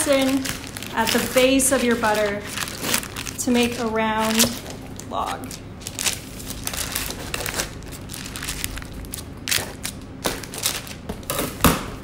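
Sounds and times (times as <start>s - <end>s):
parchment paper crinkling: 0.0s - 11.3s.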